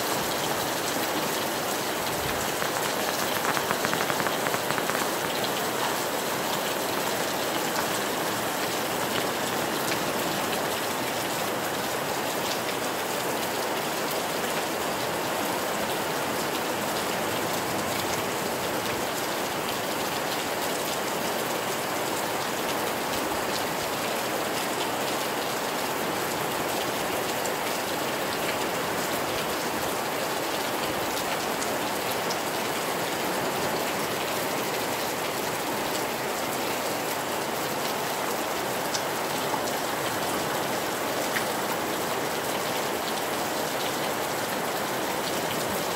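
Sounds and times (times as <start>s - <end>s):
rain hiss: 0.0s - 45.9s
ticks of raindrops: 0.1s - 45.9s.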